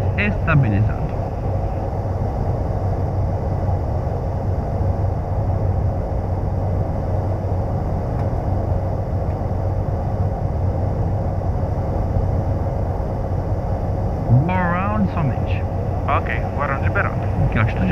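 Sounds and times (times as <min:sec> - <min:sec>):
turboprop engine drone: 0:00.0 - 0:17.9.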